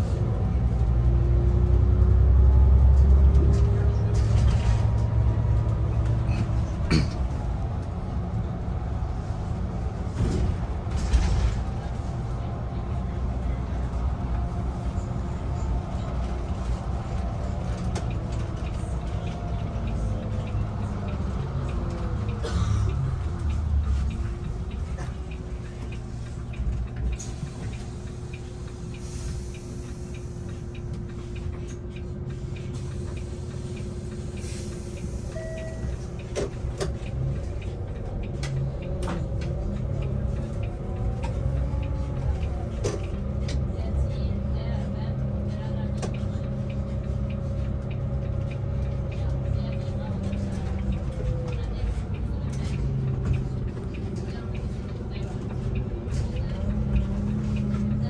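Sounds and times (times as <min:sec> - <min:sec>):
bus drivetrain and road rumble: 0:00.0 - 0:58.0.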